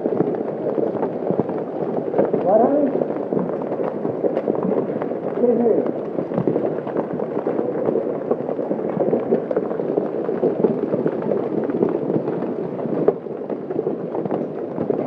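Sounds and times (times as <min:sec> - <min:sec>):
hailstones clattering: 0:00.0 - 0:15.0.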